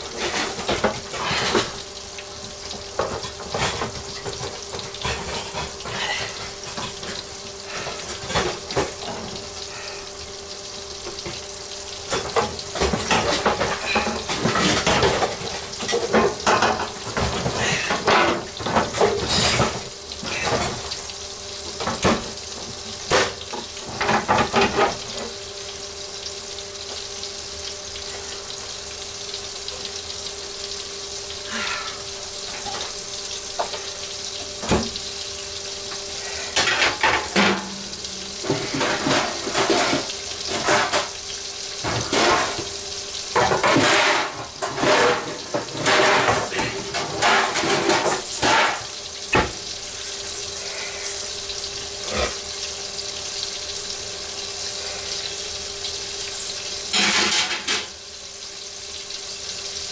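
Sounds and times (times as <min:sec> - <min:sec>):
pork chops sizzling in grease: 0:00.0 - 0:59.9.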